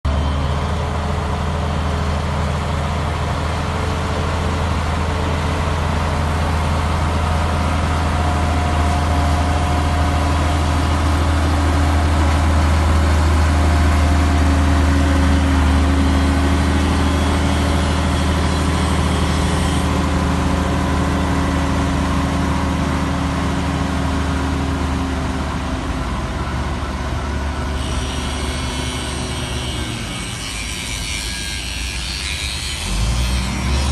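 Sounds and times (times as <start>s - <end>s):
bulldozer diesel engine droning: 0.0s - 33.9s.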